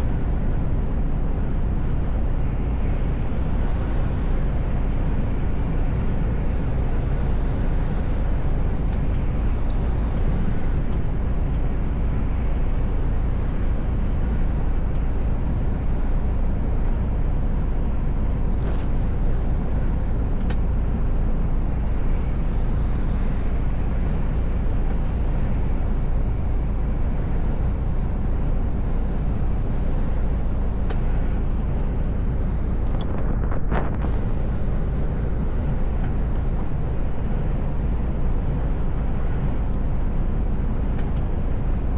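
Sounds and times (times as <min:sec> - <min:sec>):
road and tyre noise: 0:00.0 - 0:41.9
truck engine drone: 0:00.0 - 0:41.9.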